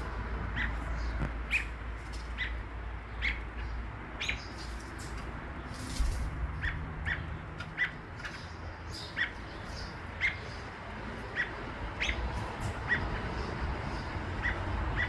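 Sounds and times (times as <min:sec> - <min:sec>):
robin chirping: 0:00.5 - 0:15.0.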